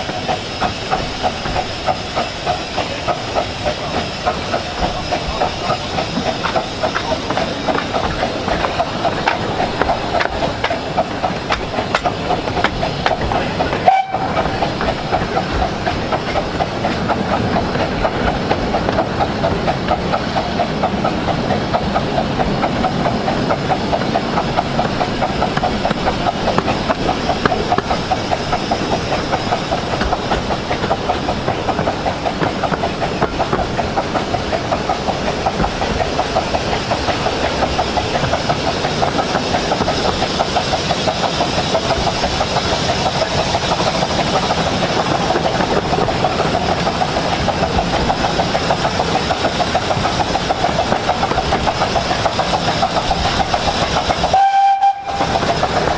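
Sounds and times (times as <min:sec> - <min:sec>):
steam hiss: 0:00.0 - 0:55.9
steam locomotive beat: 0:00.0 - 0:55.9.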